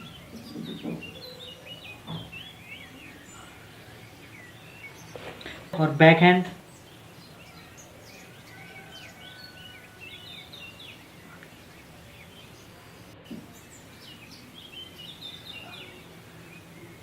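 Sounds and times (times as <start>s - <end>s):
birds chirping: 0.0s - 17.0s
low background noise: 0.0s - 17.0s.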